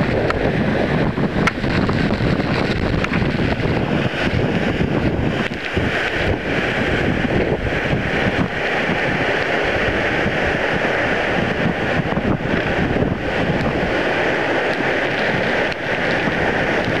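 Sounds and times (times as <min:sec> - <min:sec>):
waterfall rushing over rocks: 0:00.0 - 0:17.0
wind buffeting microphone: 0:00.0 - 0:17.0.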